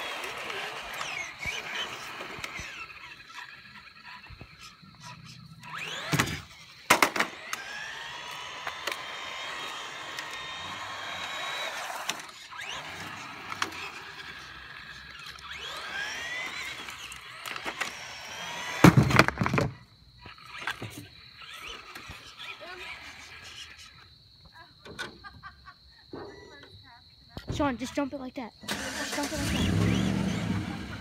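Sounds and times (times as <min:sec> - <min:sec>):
electric rc car motor whining: 0:00.0 - 0:24.2, 0:28.6 - 0:31.0.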